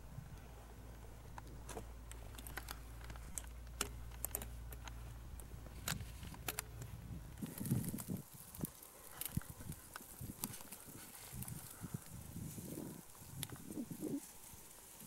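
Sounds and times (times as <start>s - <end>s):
low steady rumble: 0.0s - 15.0s
faint sharp clicks and ticks: 1.3s - 15.0s.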